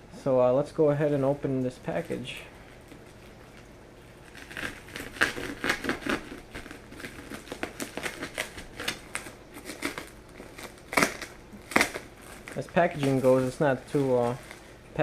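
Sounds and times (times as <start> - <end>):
packaging crinkling and rustling: 1.1 - 15.0.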